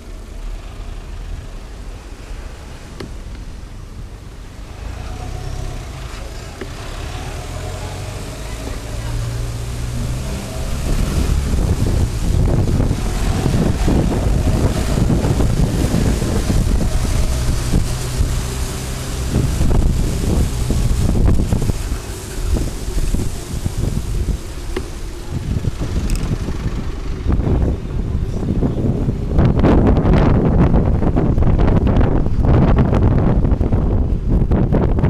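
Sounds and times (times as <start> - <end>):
lorry engine running: 0.0 - 35.0
wind noise on microphone: 0.0 - 35.0.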